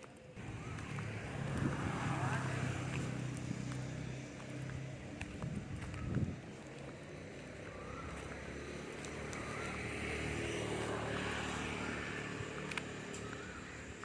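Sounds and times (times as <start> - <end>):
passing engine: 0.2 - 14.0.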